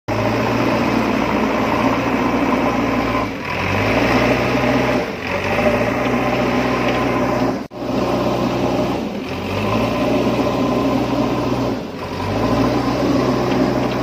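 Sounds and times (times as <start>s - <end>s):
small motor droning: 0.1s - 14.0s.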